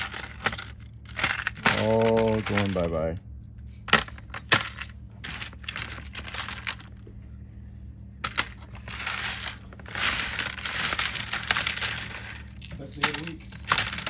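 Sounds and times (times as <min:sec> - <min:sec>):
jewelry and coins clinking: 0:00.0 - 0:06.9, 0:08.2 - 0:14.0.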